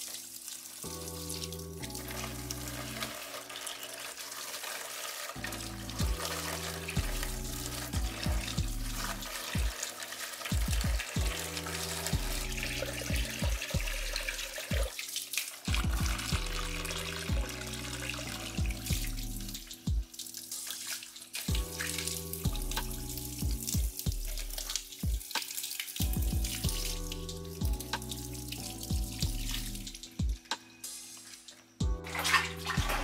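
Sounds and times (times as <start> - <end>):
water from hose splashing: 0.0 - 33.0
background music with bass: 0.9 - 3.2, 5.4 - 9.8, 10.5 - 15.0, 15.7 - 20.8, 21.5 - 33.0.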